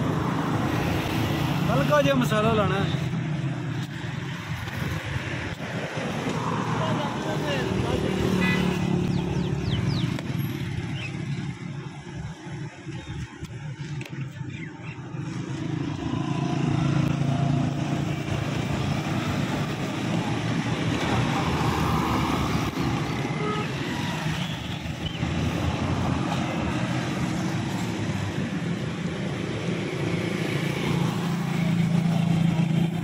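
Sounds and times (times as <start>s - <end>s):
road traffic: 0.0s - 33.0s.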